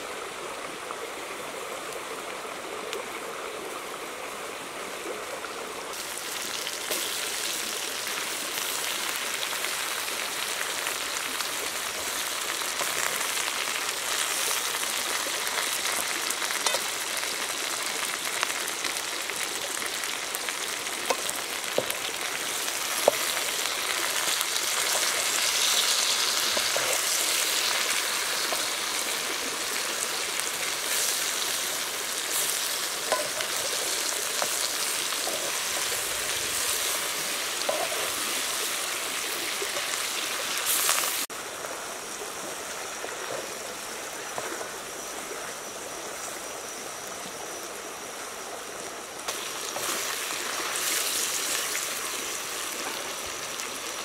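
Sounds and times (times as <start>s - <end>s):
food sizzling in wok: 5.9s - 48.0s, 49.1s - 54.0s.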